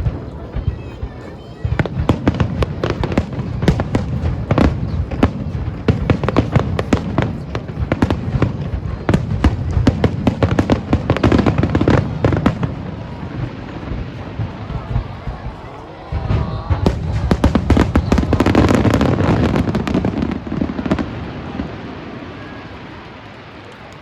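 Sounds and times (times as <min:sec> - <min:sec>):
fireworks crackling bangs: 0:00.0 - 0:24.0.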